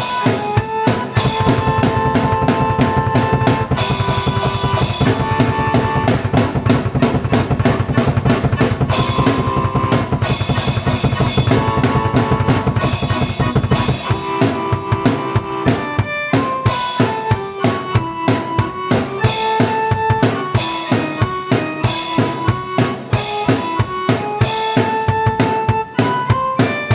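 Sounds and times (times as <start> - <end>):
drum beat: 0.0 - 26.9
keyboard chords: 0.0 - 26.9.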